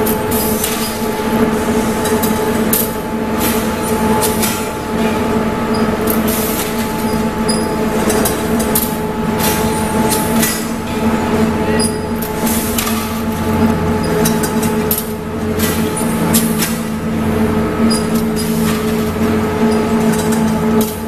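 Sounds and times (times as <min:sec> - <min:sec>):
machinery clicks and clanks: 0:00.0 - 0:21.0
machinery humming: 0:00.0 - 0:21.0.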